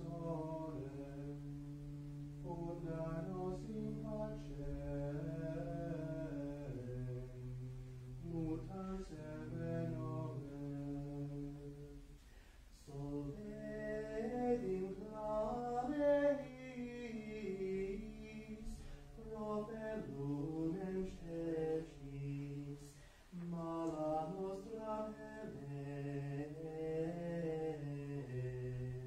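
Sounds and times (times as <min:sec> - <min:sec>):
man singing plainchant: 0:00.0 - 0:12.1, 0:12.8 - 0:29.0.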